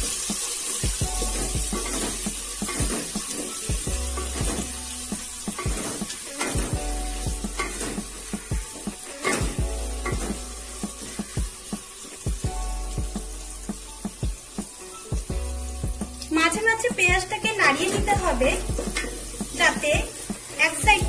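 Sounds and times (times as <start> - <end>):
onion sizzling in oil: 0.0 - 21.0.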